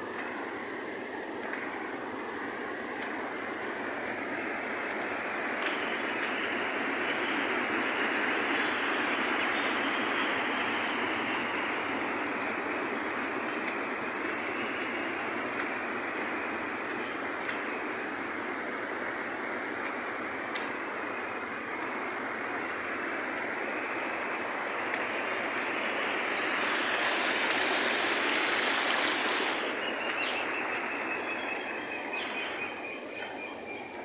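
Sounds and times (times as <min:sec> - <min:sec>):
storm runoff water rushing: 0:00.0 - 0:34.0.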